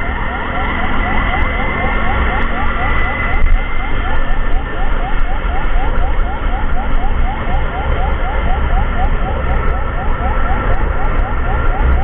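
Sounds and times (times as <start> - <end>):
emergency siren yelping: 0.0 - 12.0
heavy low rumble: 0.0 - 12.0.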